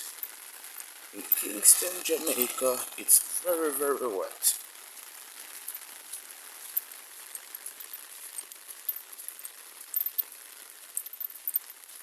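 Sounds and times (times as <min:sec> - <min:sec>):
sharp drip ticks: 0:00.0 - 0:12.0
steady rain falling: 0:00.0 - 0:12.0.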